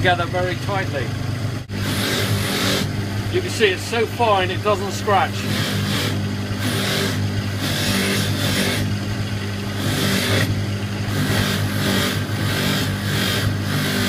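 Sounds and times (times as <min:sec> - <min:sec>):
polishing motor humming: 0:00.0 - 0:14.0.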